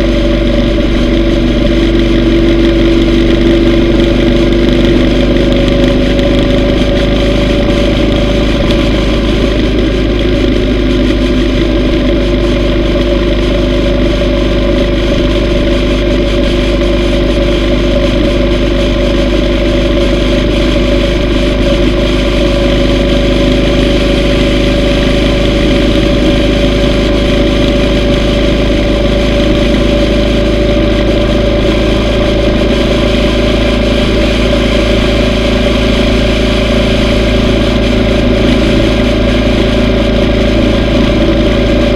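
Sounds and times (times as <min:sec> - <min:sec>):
low rumble: 0:00.0 - 0:41.9
motorcycle engine running: 0:00.0 - 0:41.9.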